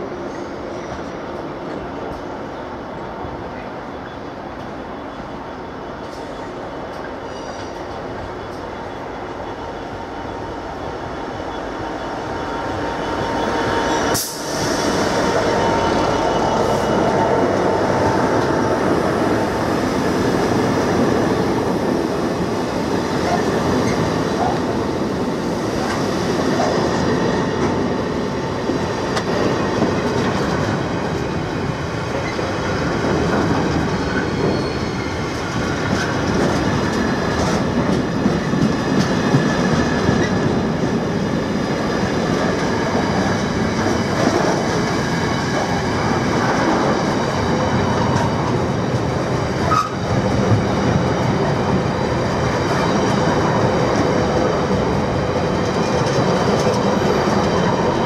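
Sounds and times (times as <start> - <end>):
diesel locomotive passing: 6.0 - 58.0
wheels rumbling on rail: 6.0 - 58.0.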